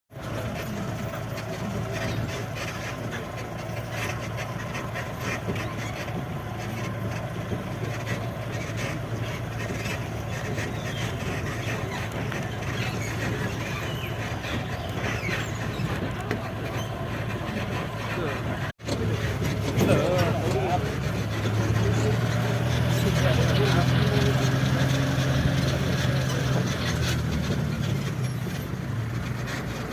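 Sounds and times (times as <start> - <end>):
bus engine running: 0.1 - 29.9.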